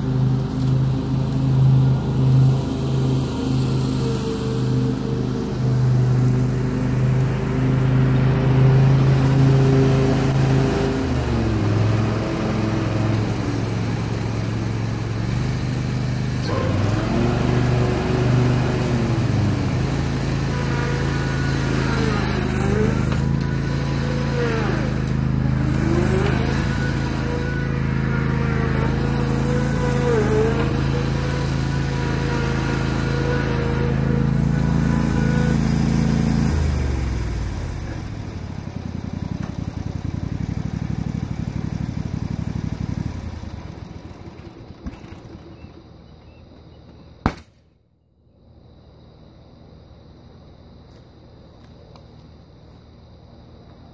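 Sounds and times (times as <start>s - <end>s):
riding mower engine running: 0.0s - 47.4s.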